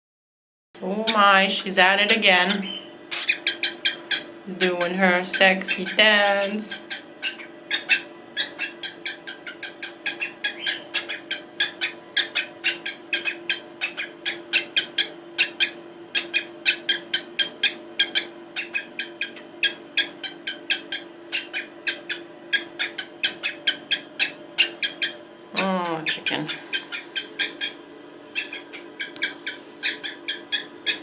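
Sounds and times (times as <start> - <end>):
cockatiel chirping: 1.1 - 31.0.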